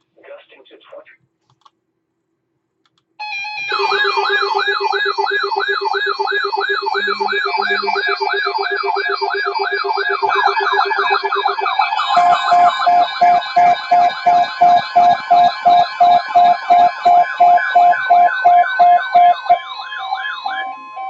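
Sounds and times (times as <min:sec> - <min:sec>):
electronic yelp sirens: 0:03.2 - 0:21.0
pulsing alarm beeps: 0:03.2 - 0:21.0
steady alarm tone: 0:03.2 - 0:21.0.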